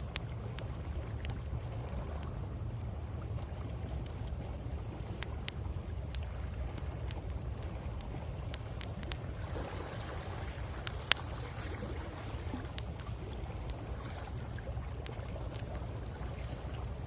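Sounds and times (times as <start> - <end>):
campfire crackling and popping: 0.0 - 17.0
sea waves on shore: 0.0 - 17.0.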